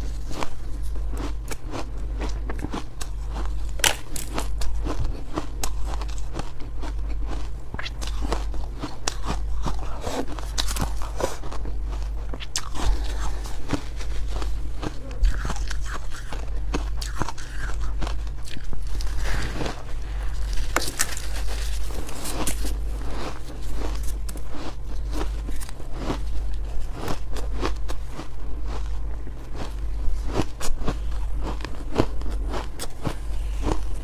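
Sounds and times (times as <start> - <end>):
chewing crunchy ice: 0.0 - 34.0
steady low hum: 0.0 - 34.0.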